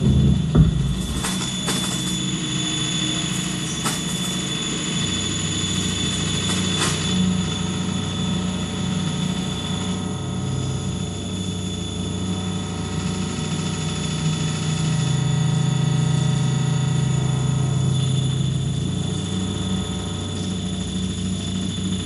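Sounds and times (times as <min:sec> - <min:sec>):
constant high whine: 0:00.0 - 0:22.0
droning noise with low hum: 0:00.0 - 0:22.0.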